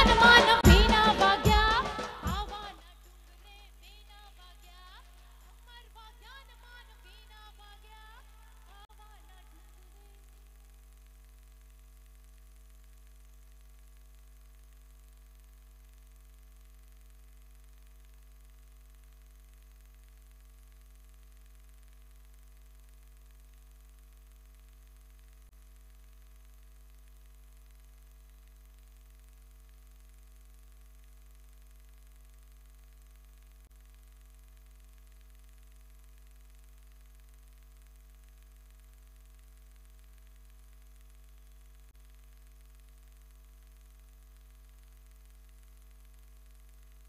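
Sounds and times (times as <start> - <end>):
faint hiss: 0.0 - 47.0
electrical mains hum: 4.5 - 47.0.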